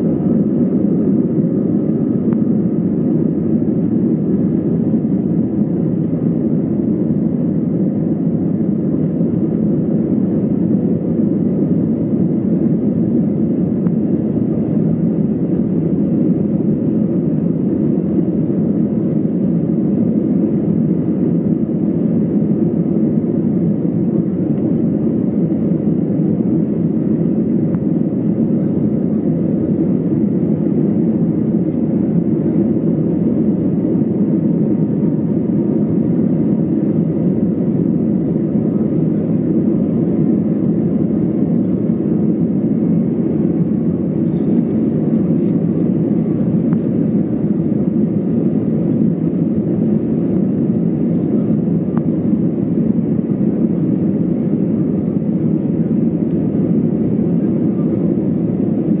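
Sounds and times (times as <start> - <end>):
jet engines heard from cabin: 0.0 - 59.0.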